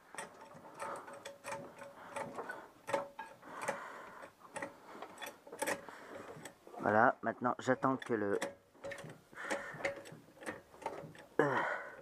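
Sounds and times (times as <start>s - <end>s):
trolley jack clicking: 0.0s - 6.6s, 7.7s - 11.4s.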